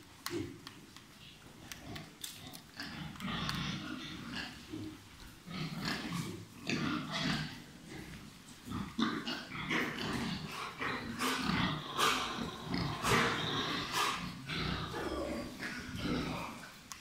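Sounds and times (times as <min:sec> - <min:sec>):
pigs grunting: 0:01.8 - 0:16.8.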